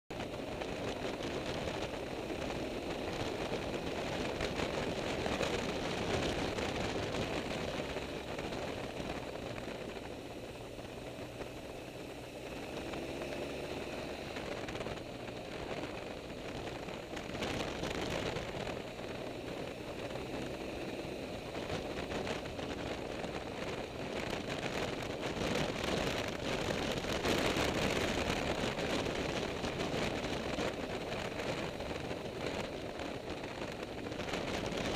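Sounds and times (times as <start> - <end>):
motorcycle engine running: 0.1 - 34.9
wind rush on microphone: 0.1 - 34.9.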